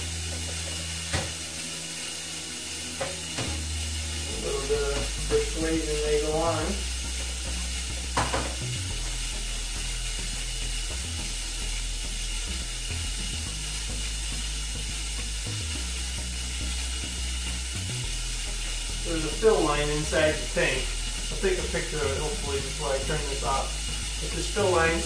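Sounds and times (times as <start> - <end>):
water hissing into toilet tank: 0.0 - 25.0.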